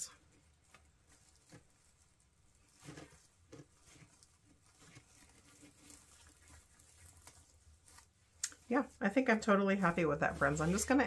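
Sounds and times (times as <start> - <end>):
hands rustling plastic mesh: 0.1 - 11.0.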